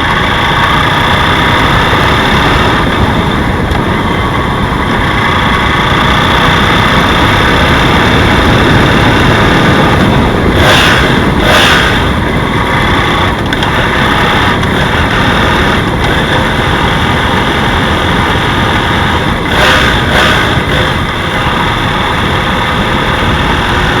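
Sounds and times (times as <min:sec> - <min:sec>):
engine knocking: 0:00.0 - 0:24.0
motorcycle engine running: 0:00.0 - 0:24.0.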